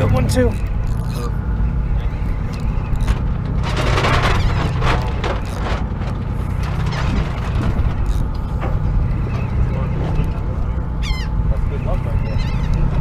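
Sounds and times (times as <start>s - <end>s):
boat engine rumble: 0.0s - 13.0s
water noise: 0.0s - 13.0s.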